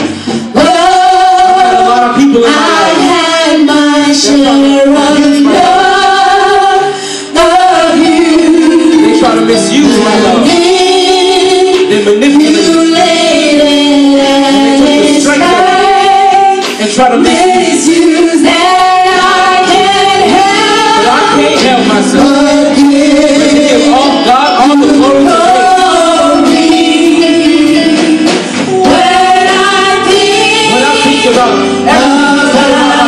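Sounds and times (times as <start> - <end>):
gospel group singing in harmony: 0.0 - 33.0.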